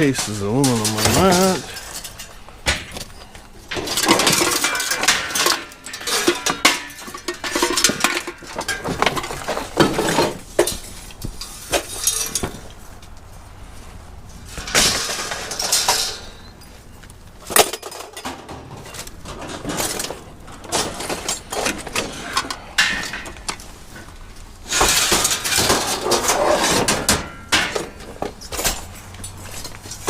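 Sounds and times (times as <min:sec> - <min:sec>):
scrap metal clattering: 0:00.0 - 0:30.0.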